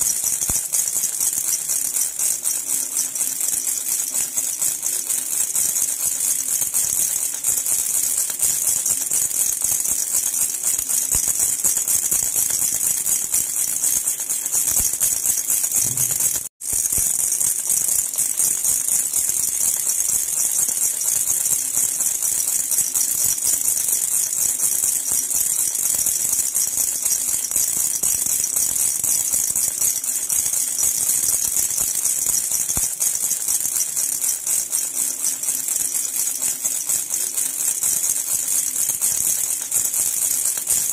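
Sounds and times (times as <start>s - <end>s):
baby rattle jingling: 0.0s - 40.9s.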